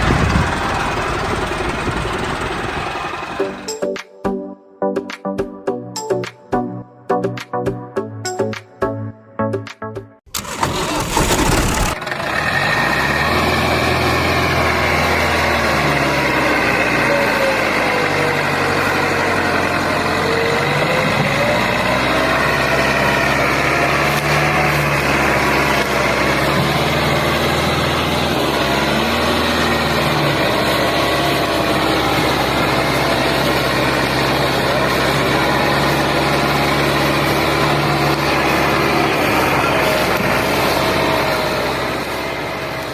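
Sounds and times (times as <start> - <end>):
tractor engine running: 0.0 - 4.4, 5.0 - 42.9.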